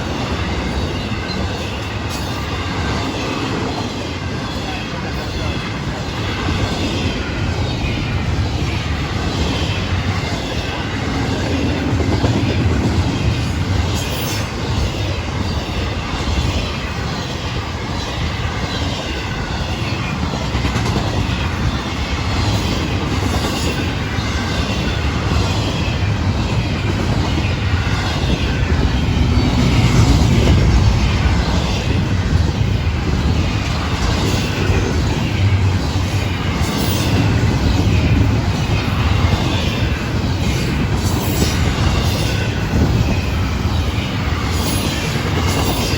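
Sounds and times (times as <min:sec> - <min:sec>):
freight cars rolling on rails: 0:00.0 - 0:45.9.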